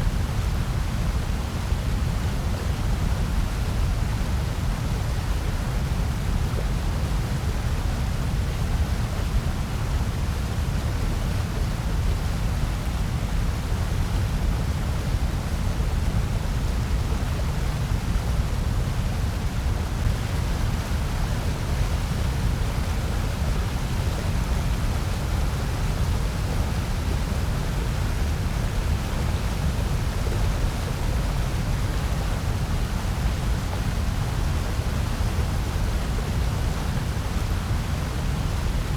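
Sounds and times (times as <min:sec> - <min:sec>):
white noise: 0:00.0 - 0:38.9.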